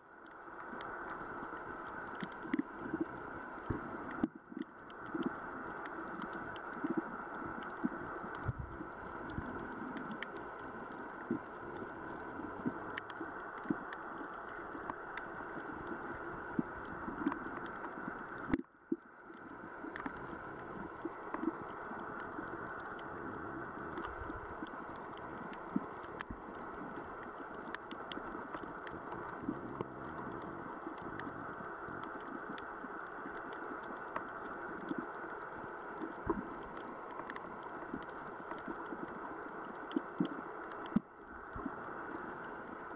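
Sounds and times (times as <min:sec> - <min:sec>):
muffled underwater hiss: 0:00.0 - 0:42.9
sharp clicks and crackles: 0:00.2 - 0:42.9.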